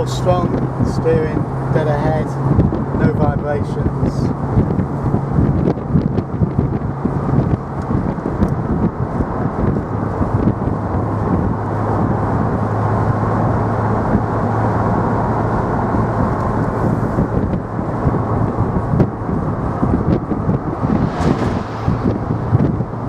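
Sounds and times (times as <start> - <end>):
tyre and wind noise: 0.0 - 13.2, 15.8 - 23.0
car engine low drone: 3.8 - 23.0.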